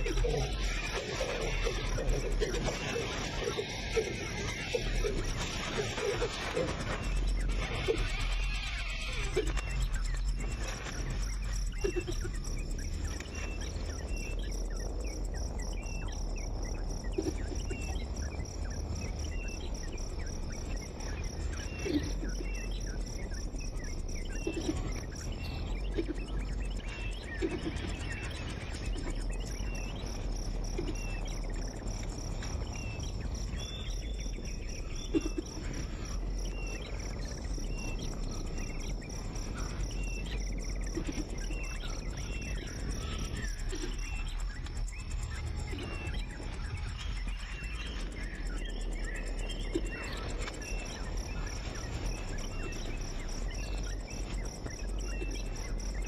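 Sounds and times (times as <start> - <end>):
crickets chirping: 0.0 - 56.0
high insect drone: 0.0 - 56.0.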